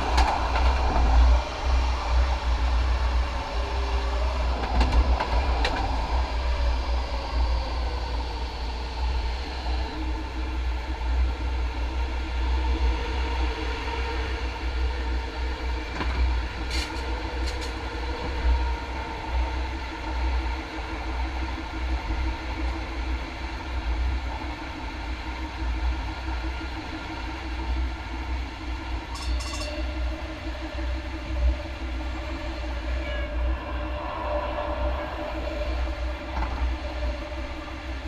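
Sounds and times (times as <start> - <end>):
train rumbling on track: 0.0 - 38.0.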